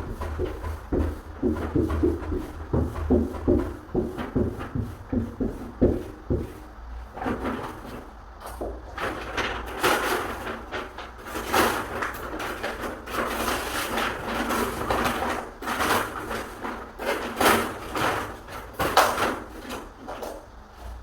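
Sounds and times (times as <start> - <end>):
scraping and rubbing on a door: 0.0 - 21.0.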